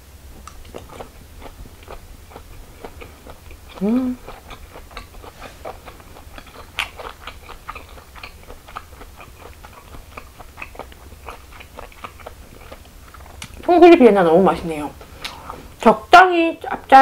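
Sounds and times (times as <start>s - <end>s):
mouth chewing sausage: 0.3s - 17.0s.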